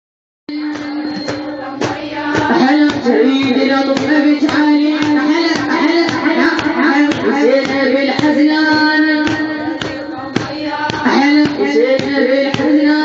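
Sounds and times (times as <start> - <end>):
woman chanting a lament: 0.5 - 13.0
regular beat: 0.6 - 13.0.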